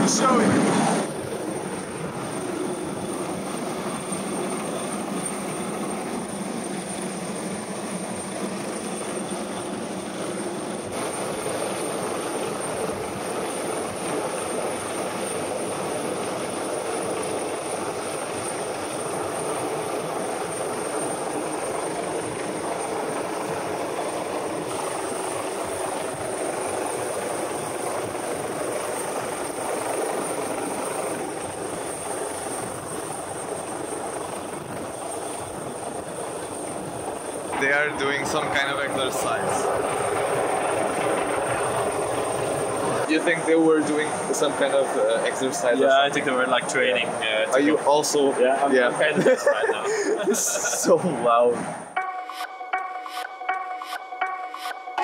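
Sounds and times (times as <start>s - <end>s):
helicopter rotor drone: 0.0s - 55.0s
thin high whine: 0.0s - 55.0s.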